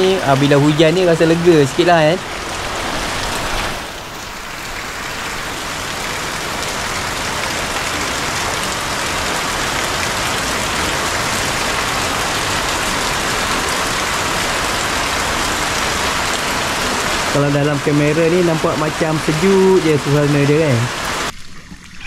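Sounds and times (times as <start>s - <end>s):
heavy rain falling: 0.0s - 21.4s.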